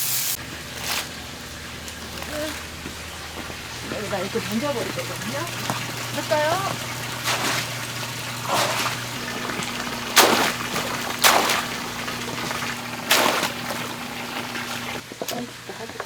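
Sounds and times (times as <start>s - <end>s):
steady low hum: 0.4s - 15.0s
oysters splashing: 0.4s - 15.4s.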